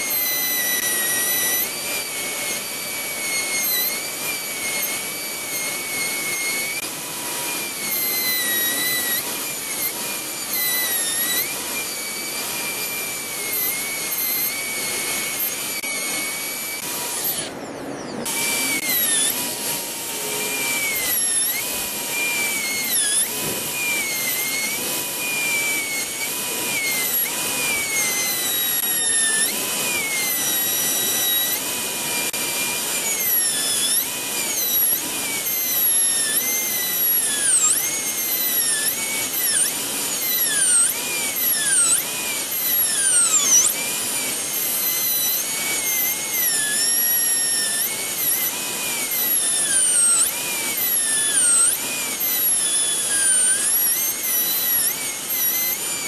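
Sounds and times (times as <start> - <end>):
dental drill whining: 0.0 - 56.0.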